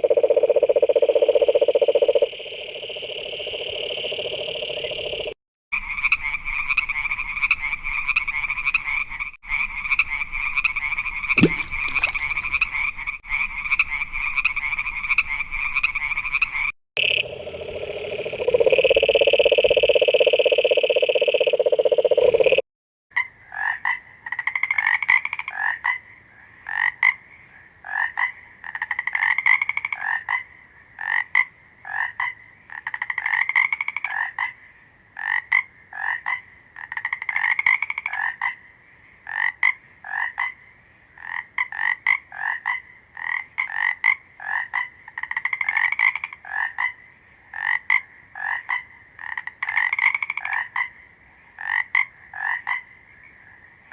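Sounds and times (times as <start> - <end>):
frogs croaking: 0.0 - 22.6, 23.4 - 53.9.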